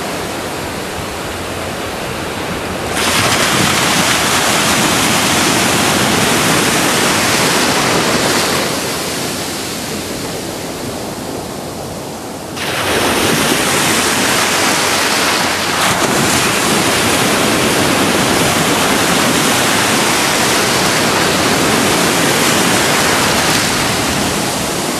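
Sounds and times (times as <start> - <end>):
ocean surf: 0.0 - 24.9
wind on microphone: 0.0 - 24.9.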